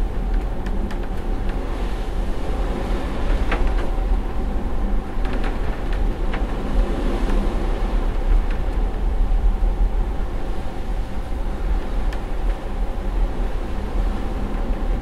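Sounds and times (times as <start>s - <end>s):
faint steady hum: 0.0s - 15.0s
ship low rumble: 0.0s - 15.0s.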